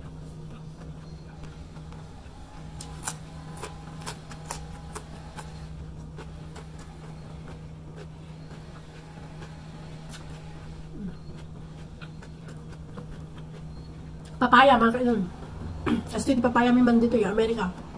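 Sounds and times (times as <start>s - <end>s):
cucumber crunching being chewed: 0.0s - 14.4s
steady low hum: 0.0s - 17.9s.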